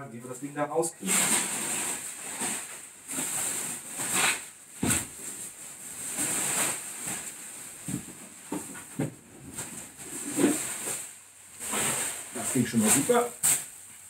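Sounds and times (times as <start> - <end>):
bubble wrap rustling and crinkling: 0.2 - 14.0.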